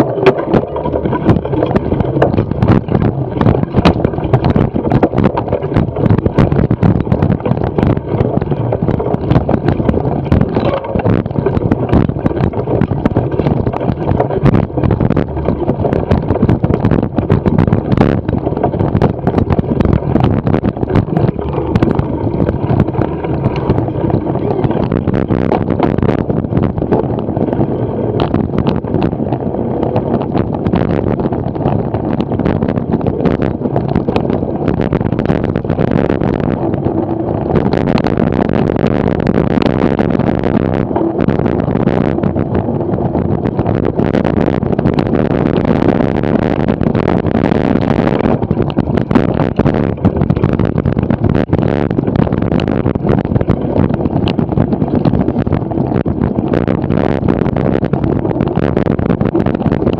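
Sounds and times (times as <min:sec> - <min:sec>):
tyres rumbling on dirt track: 0:00.0 - 0:59.9
wind buffeting microphone: 0:00.0 - 0:59.9.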